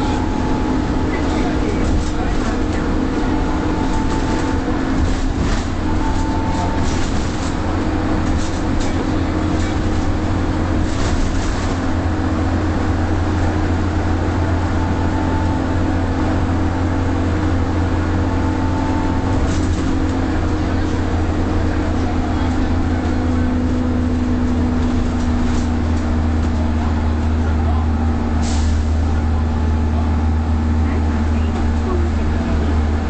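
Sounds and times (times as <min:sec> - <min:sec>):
bus diesel engine drone: 0:00.0 - 0:33.0
road noise: 0:00.0 - 0:33.0.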